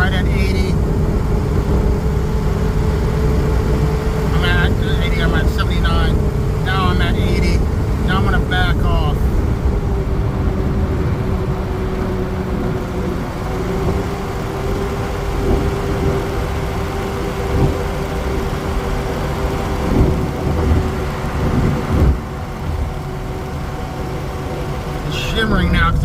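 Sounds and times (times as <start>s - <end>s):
in-cab highway engine drone: 0.0s - 26.0s
steady tone: 0.0s - 26.0s.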